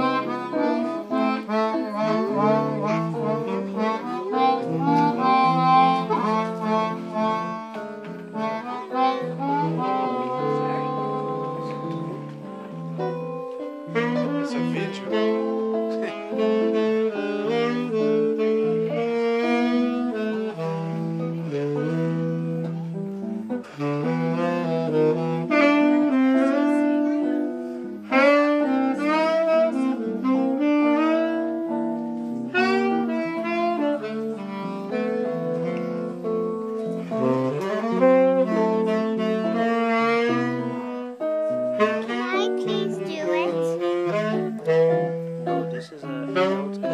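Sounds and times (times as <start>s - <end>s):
electric guitar chords: 0.0s - 46.9s
tenor saxophone melody: 0.0s - 46.9s.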